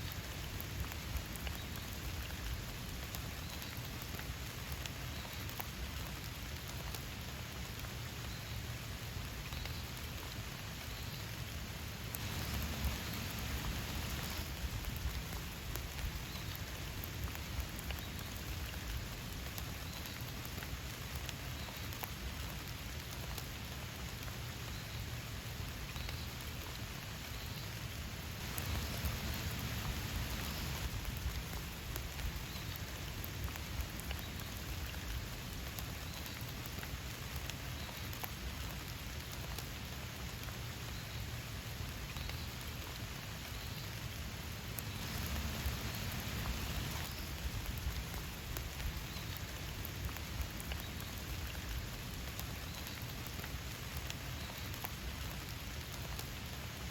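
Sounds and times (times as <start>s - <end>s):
rain ticking on hard surface: 0.0s - 56.9s.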